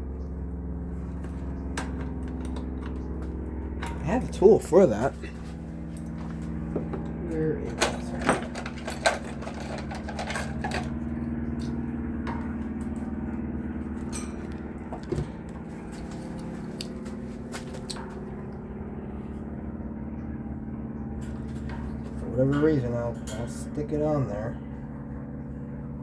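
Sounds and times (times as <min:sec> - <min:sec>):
mechanical hum: 0:00.0 - 0:26.0.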